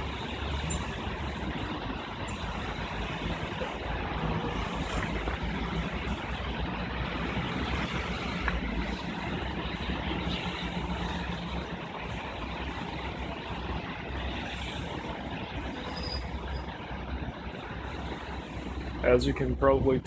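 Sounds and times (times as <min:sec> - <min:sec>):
traffic rumbling and idling: 0:00.0 - 0:20.0.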